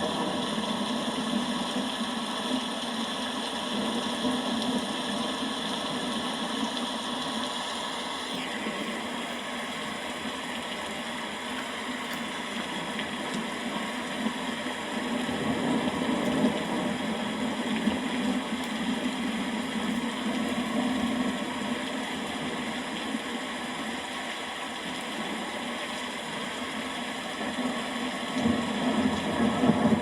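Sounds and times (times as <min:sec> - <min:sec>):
rain falling steadily: 0:00.0 - 0:30.0.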